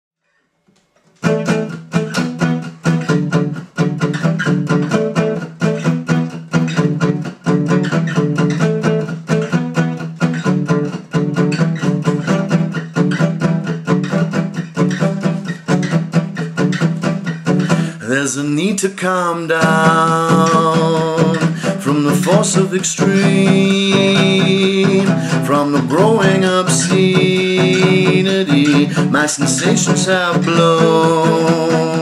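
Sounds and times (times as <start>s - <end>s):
fast plucked notes: 1.2s - 18.0s, 19.5s - 32.0s.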